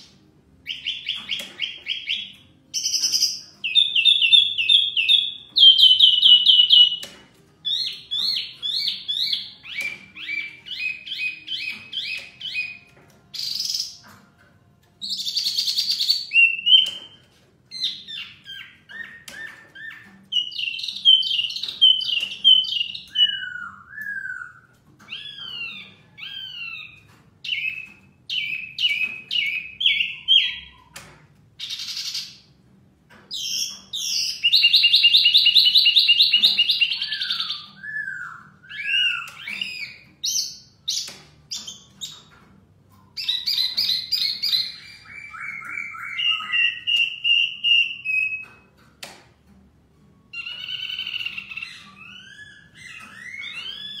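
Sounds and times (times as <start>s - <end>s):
songbird singing whistled phrases: 0.0s - 14.1s, 15.0s - 31.0s, 33.3s - 42.2s, 43.1s - 48.7s, 50.3s - 54.0s.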